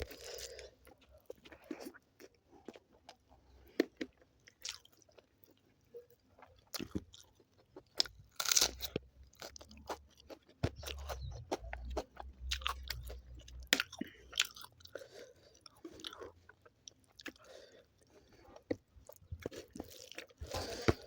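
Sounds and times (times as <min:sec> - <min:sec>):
chewing and biting food: 0:00.0 - 0:21.0.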